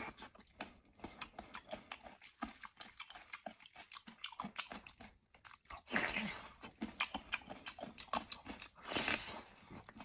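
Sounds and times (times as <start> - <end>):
chewing crunchy meat: 0.0 - 10.0.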